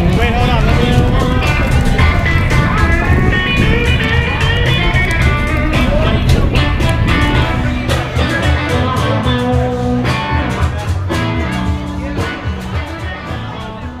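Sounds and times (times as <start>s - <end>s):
guitar-led background music: 0.0s - 14.0s.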